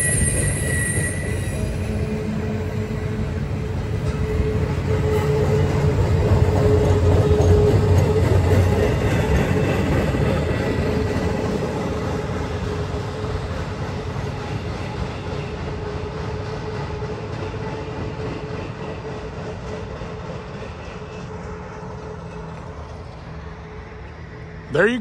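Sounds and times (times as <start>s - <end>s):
train wheels rumbling on rail: 0.0s - 24.7s.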